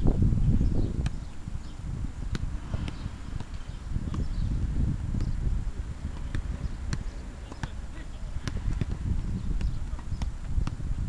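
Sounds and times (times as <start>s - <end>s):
wind on microphone: 0.0s - 11.0s
football taps: 0.9s - 1.3s, 2.3s - 11.0s.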